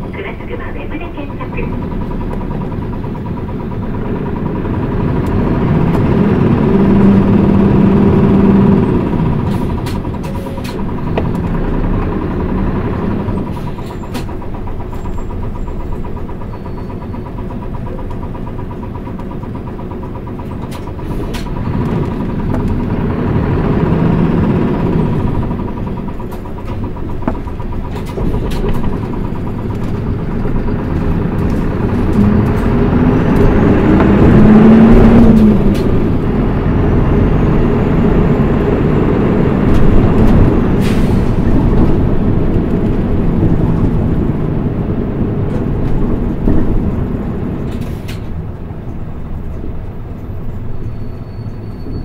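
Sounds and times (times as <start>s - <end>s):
bus diesel engine rumbling: 0.0s - 52.0s.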